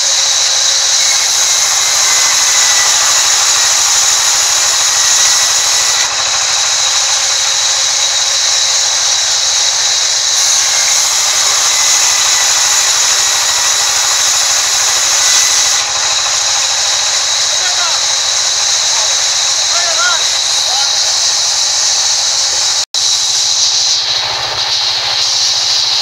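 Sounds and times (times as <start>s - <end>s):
band saw whining through wood: 0.0s - 26.0s.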